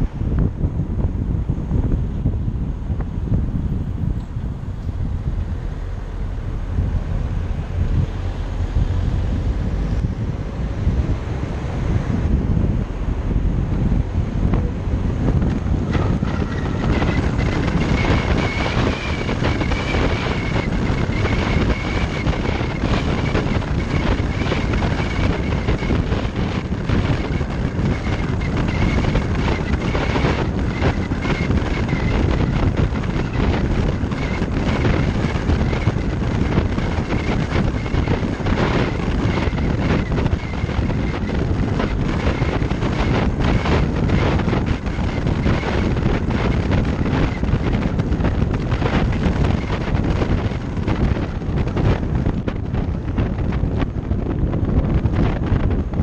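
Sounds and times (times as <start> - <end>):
road noise: 0.0 - 56.0
wind buffeting microphone: 0.0 - 56.0.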